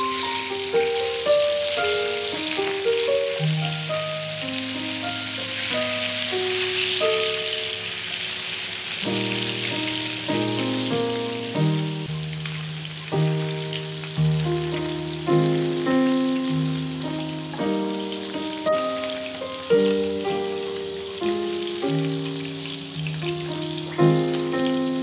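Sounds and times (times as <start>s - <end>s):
instrumental background music: 0.0s - 7.9s, 9.0s - 25.0s
fish sizzling in hot oil: 0.0s - 25.0s.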